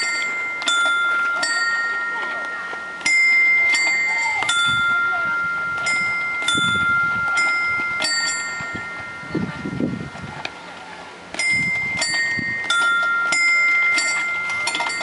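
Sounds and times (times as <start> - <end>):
bell-like chime tones: 0.0 - 10.2, 11.4 - 15.0.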